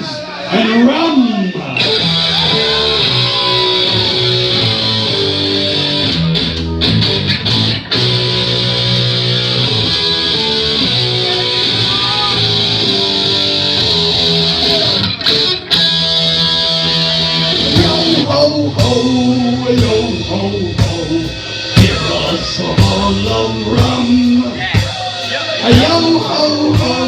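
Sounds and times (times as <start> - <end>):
heavy metal electric guitar chords: 1.8 - 27.0.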